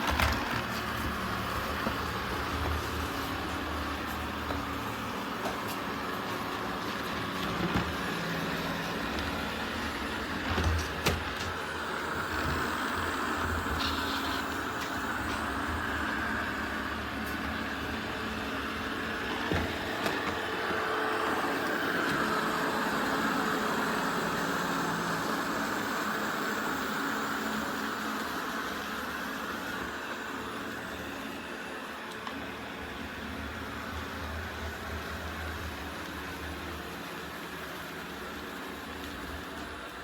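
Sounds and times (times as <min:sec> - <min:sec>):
robot vacuum whirring: 0:00.0 - 0:40.0.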